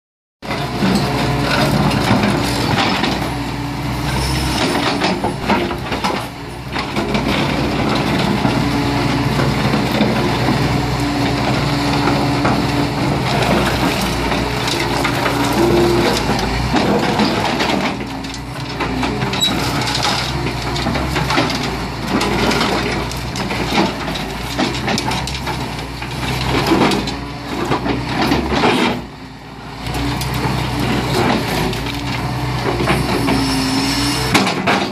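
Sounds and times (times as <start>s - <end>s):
excavator diesel engine: 0.4s - 34.9s
masonry cracking and crunching: 0.6s - 29.2s.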